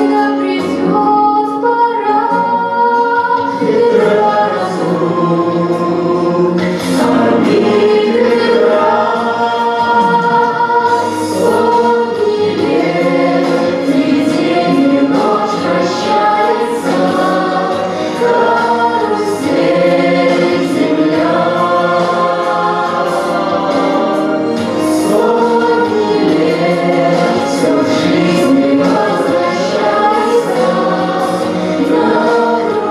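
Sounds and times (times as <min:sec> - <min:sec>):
group singing in chorus: 0:00.0 - 0:32.9
instrumental backing: 0:00.0 - 0:32.9.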